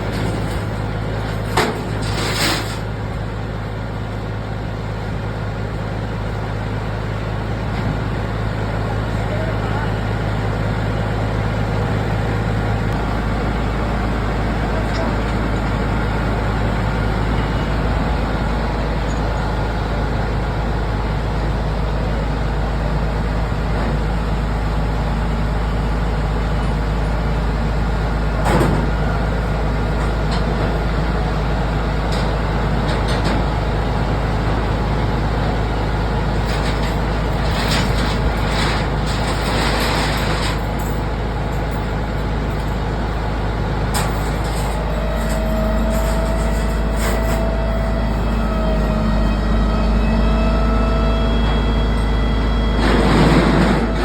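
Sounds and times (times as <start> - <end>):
heavy vehicle low rumble: 0.0 - 54.0.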